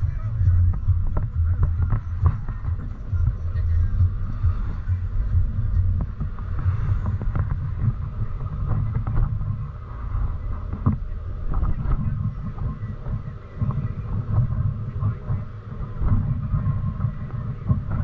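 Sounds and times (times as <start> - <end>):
bus engine and road rumble: 0.0 - 18.0
wind buffeting microphone: 0.0 - 18.0.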